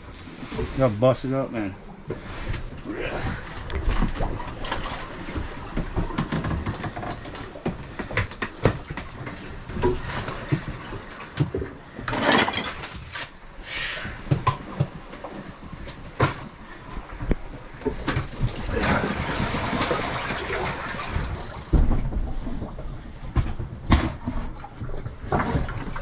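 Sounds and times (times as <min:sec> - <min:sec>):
knocking and creaking in boat cabin: 0:01.8 - 0:13.2, 0:14.1 - 0:26.0.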